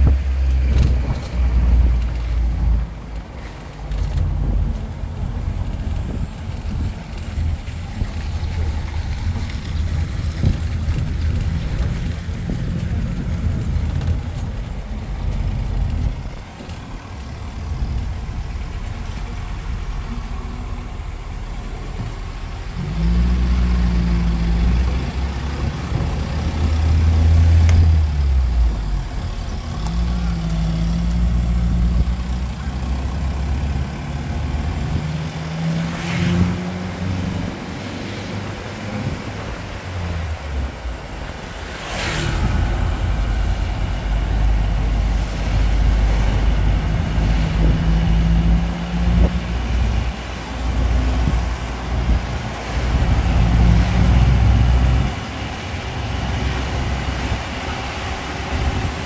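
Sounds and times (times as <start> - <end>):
road traffic engines: 0.0 - 59.0.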